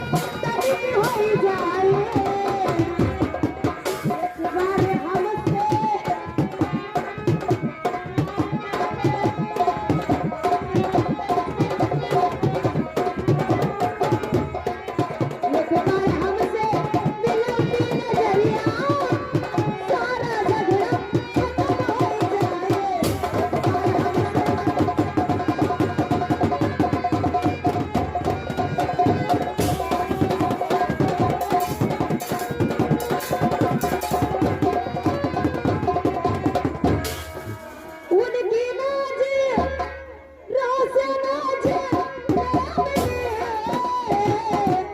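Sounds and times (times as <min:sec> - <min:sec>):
fast hand-drum rhythm: 0:00.0 - 0:38.3, 0:41.6 - 0:44.9.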